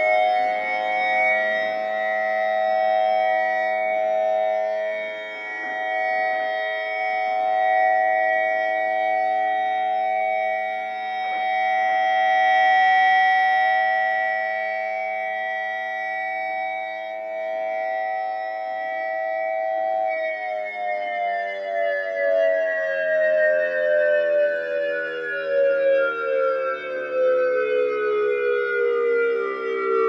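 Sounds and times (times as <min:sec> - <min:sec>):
dual-tone electronic siren: 0:00.0 - 0:30.0.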